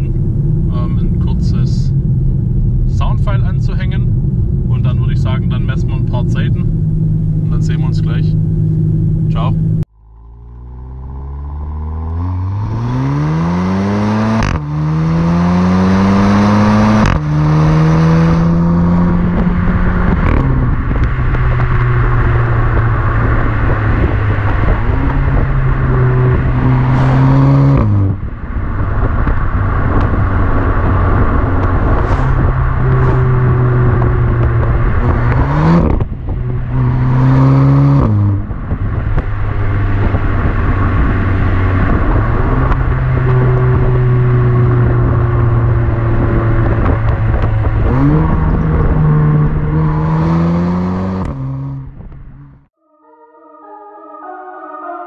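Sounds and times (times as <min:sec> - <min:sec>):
car engine accelerating hard: 0:00.0 - 0:52.7.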